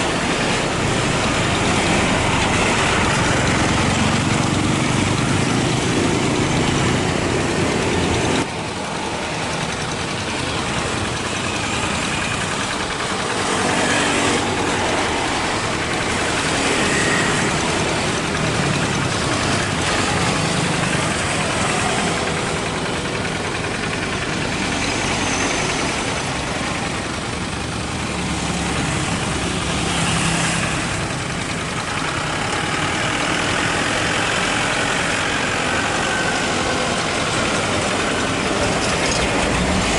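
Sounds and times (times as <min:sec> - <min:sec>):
loud engine noise: 0:00.0 - 0:39.9.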